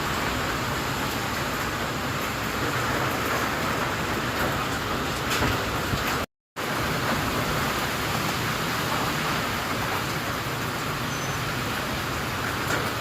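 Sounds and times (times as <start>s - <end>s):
heavy rain: 0.0s - 13.0s
wind: 0.0s - 13.0s.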